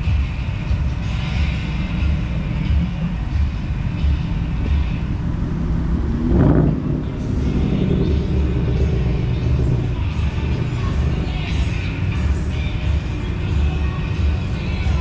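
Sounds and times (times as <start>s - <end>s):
car engine driving by: 0.4s - 15.0s.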